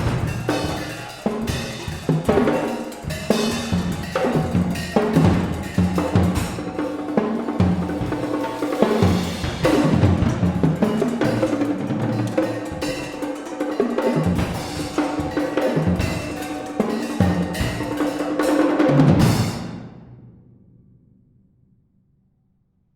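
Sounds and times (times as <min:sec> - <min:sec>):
percussion ensemble playing drums: 0:00.0 - 0:20.1.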